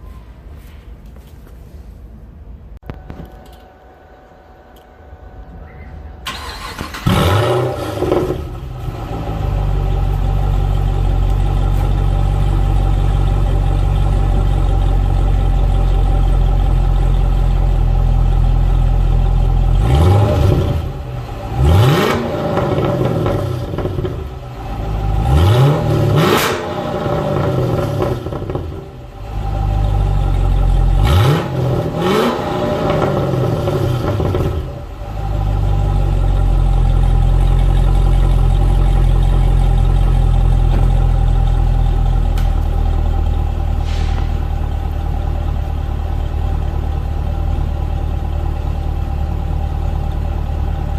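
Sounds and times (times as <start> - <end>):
car engine revving and idling: 6.3 - 50.9.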